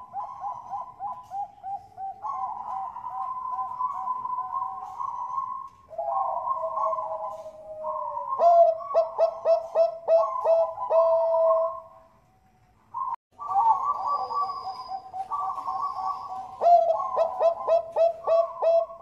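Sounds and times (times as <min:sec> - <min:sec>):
dove cooing: 0:00.0 - 0:12.1, 0:12.9 - 0:19.0.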